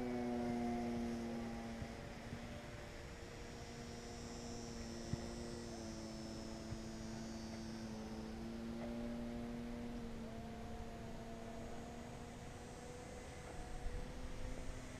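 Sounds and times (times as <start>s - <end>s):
model plane buzzing overhead: 0.0s - 14.9s.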